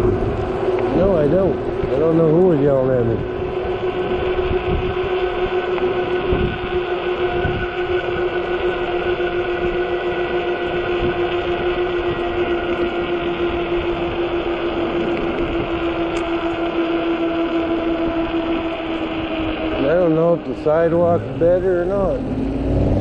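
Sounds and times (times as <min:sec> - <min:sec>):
electric bike motor whine: 0:00.0 - 0:23.0
wind rumble on microphone: 0:00.0 - 0:23.0.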